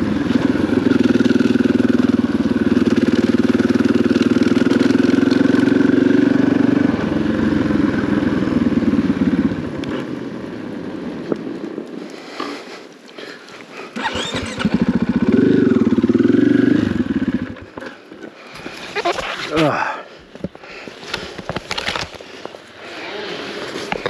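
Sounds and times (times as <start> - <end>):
dirt bike engine running: 0.0 - 11.9, 13.9 - 24.0.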